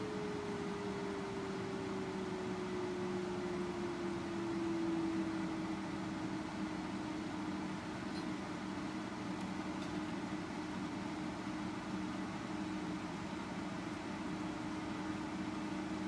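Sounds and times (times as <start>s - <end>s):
electronic equipment hum and hiss: 0.0s - 16.0s.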